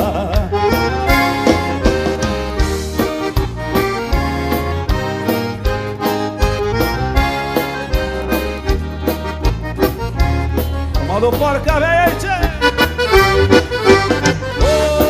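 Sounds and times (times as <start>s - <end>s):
accordion playing melody: 0.0s - 15.0s.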